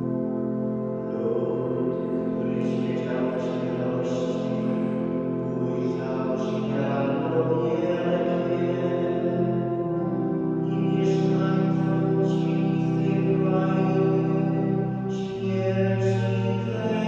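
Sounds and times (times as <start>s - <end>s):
church music held chords: 0.0s - 17.0s
steady bass tone: 0.0s - 17.0s.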